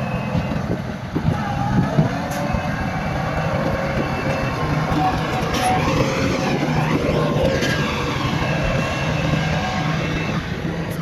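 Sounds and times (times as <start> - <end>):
bulldozer diesel engine running: 0.0 - 11.0
faint whine: 0.0 - 11.0.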